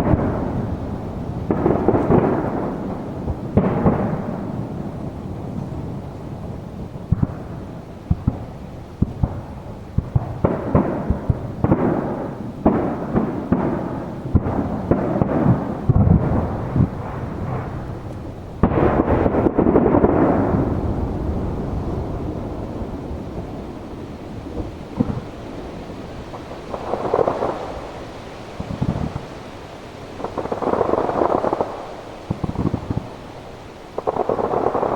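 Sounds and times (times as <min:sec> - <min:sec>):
firework shells booming: 0:00.0 - 0:34.9.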